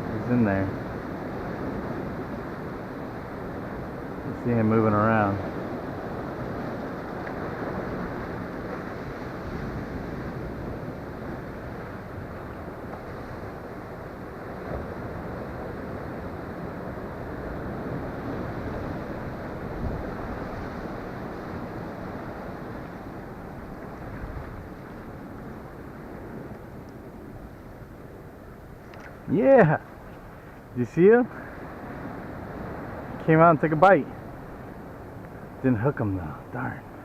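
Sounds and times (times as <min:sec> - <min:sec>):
ocean surf washing: 0:00.0 - 0:37.0
wind buffeting microphone: 0:00.0 - 0:37.0.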